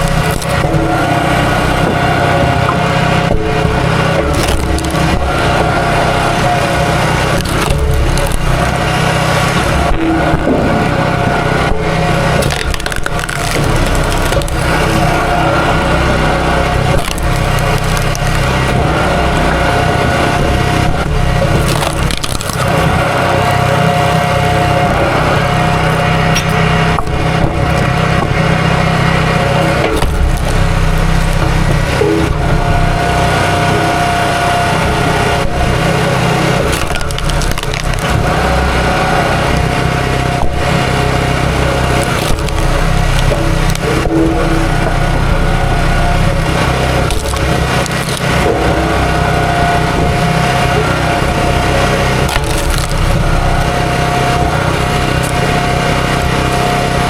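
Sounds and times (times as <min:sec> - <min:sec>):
small gasoline engine running: 0:00.0 - 0:57.0
wood cracking and splintering: 0:00.0 - 0:57.0.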